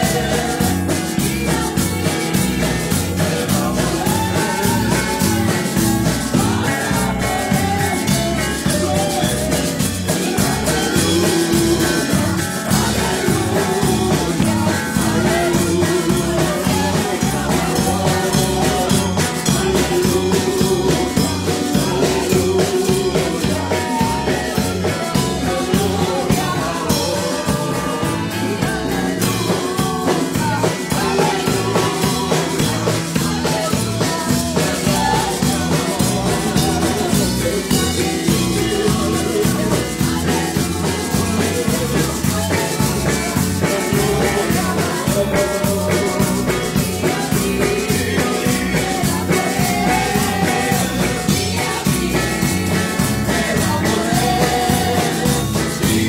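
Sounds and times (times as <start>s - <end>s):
conga drums: 0.0s - 56.0s
electric bass: 0.0s - 56.0s
woman singing into microphone: 0.0s - 56.0s.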